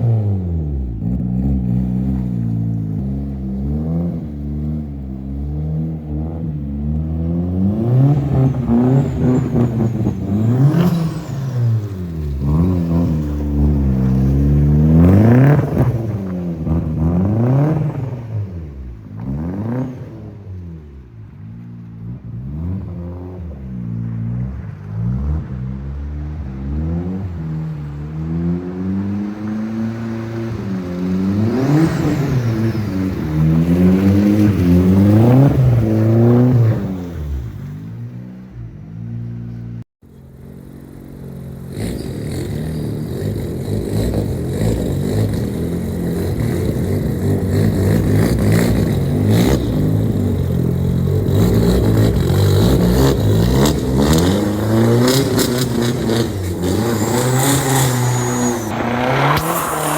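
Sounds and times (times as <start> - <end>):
car engine revving: 0.0 - 39.8, 40.4 - 59.9.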